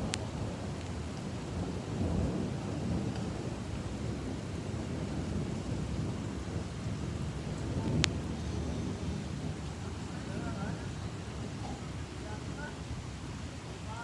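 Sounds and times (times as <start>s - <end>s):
low rumble: 0.0s - 13.1s
steady rain: 0.0s - 14.0s.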